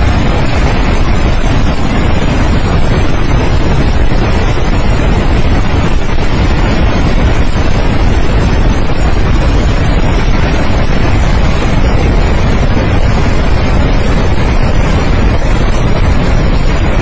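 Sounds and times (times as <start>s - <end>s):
river rushing: 0.0s - 17.0s
wind buffeting microphone: 0.0s - 17.0s.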